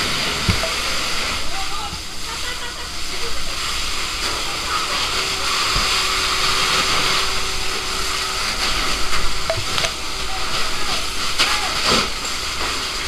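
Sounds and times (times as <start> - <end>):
fire hose water jet spraying: 0.0 - 13.0.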